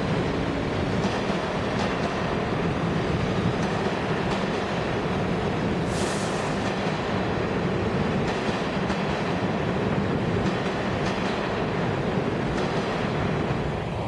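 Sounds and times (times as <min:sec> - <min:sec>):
wheels clacking over rail joints: 0:00.0 - 0:13.7
subway train wheels rumbling: 0:00.0 - 0:14.0.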